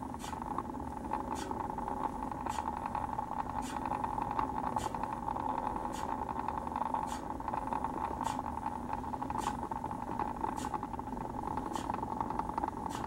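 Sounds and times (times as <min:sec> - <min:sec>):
faint ticking: 0:00.0 - 0:13.0
turntable motor humming: 0:00.0 - 0:13.0.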